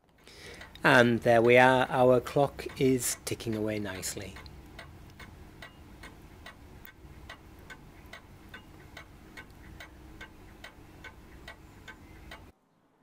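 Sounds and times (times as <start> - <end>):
clock ticking: 0.2 - 12.5.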